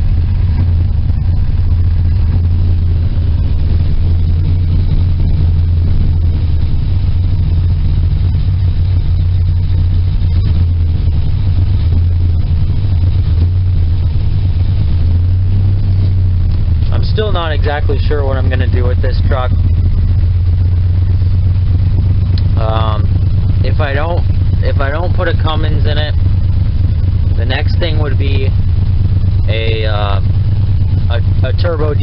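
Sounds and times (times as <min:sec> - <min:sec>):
pickup truck engine running: 0:00.0 - 0:32.0.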